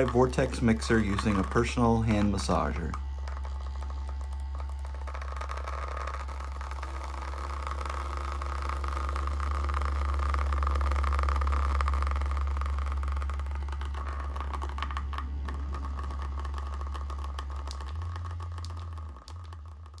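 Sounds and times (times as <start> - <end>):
vibration motor humming: 0.0 - 20.0.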